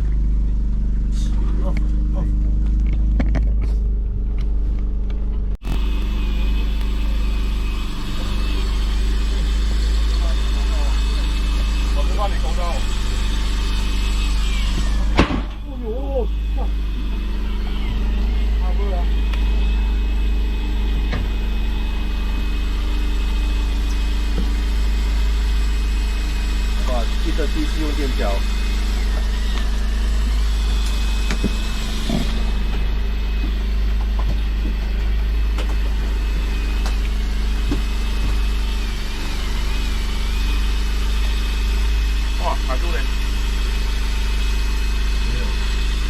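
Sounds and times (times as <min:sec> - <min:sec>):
engine running steadily: 0:00.0 - 0:46.0.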